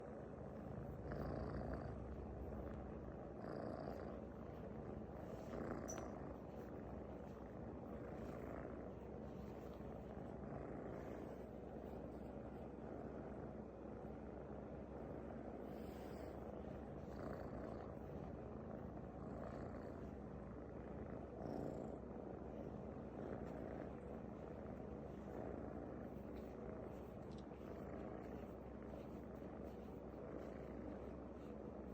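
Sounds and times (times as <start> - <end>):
cat purring: 0.0 - 31.9.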